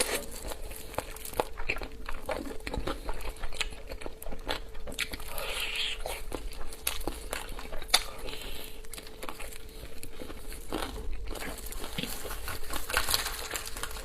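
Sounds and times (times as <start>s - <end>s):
crunching crispy chicken: 0.0s - 14.0s.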